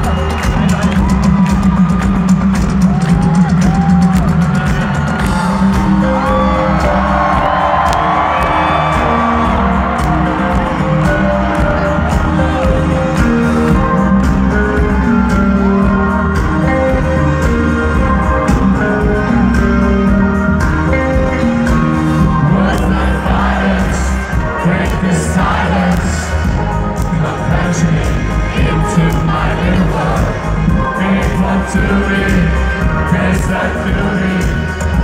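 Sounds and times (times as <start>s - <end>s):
steady drum beat: 0.0s - 21.6s, 22.2s - 35.0s
crowd singing and whooping: 0.0s - 35.0s
live band playing: 0.0s - 35.0s.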